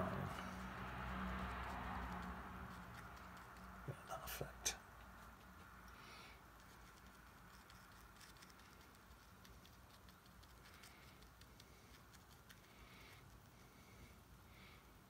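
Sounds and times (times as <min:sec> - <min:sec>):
brush dabbing paint on paper: 0:00.0 - 0:14.3.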